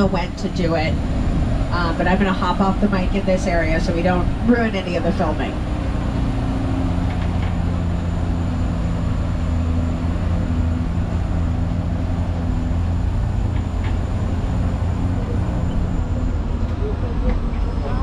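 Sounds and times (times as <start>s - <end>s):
tram engine drone: 0.0s - 18.0s.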